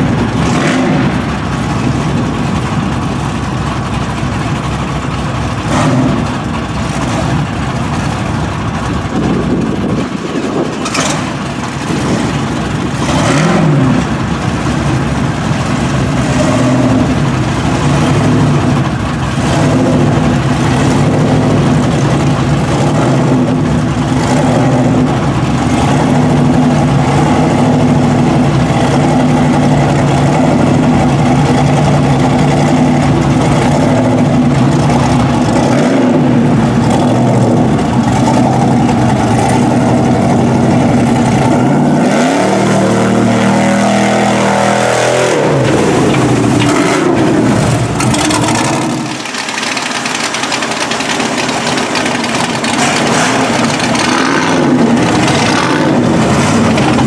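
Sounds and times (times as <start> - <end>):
pickup truck engine revving: 0.0 - 57.0
quieter truck engine: 0.0 - 57.0.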